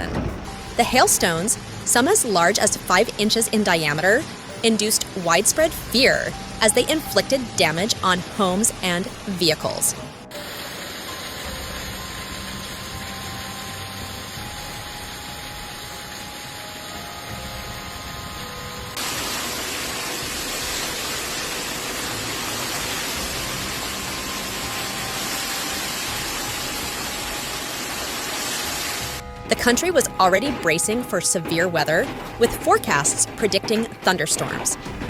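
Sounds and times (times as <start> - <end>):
hail and rain falling: 0.0 - 35.0.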